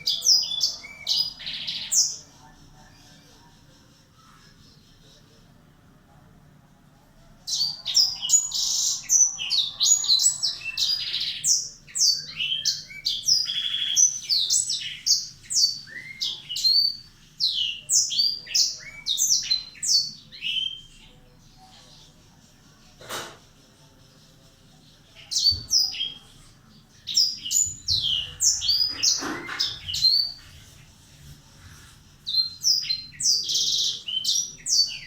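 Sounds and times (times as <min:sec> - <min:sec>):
canary singing: 0:00.0 - 0:05.4, 0:07.4 - 0:22.9, 0:25.1 - 0:31.0, 0:32.1 - 0:35.0.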